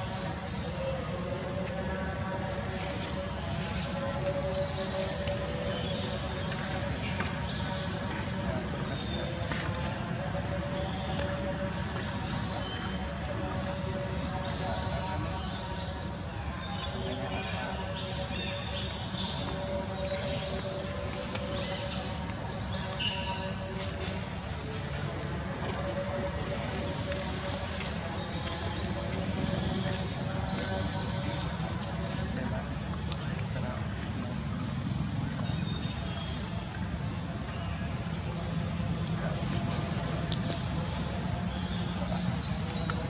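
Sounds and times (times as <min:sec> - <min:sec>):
insect chorus droning: 0:00.0 - 0:43.0.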